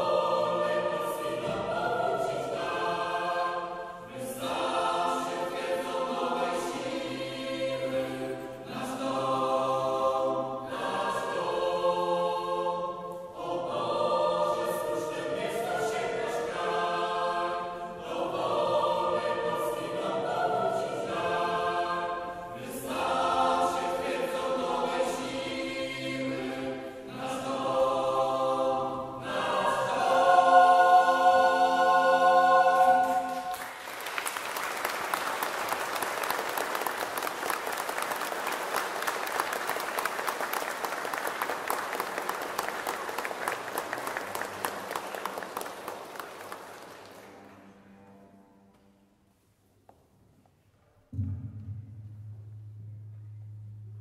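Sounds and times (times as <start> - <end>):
mixed choir singing: 0.0 - 47.5
string orchestra: 0.0 - 48.9.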